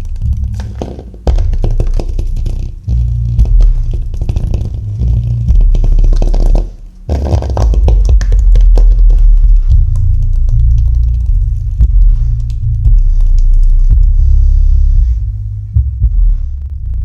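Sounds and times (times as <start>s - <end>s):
crackling distortion: 0.0s - 17.0s
subwoofer playing deep bass: 0.0s - 17.0s.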